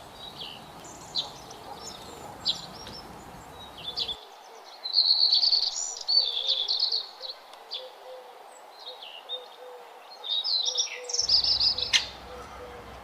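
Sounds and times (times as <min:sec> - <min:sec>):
songbirds chirping: 0:00.0 - 0:13.0
steady background hiss: 0:00.0 - 0:13.0.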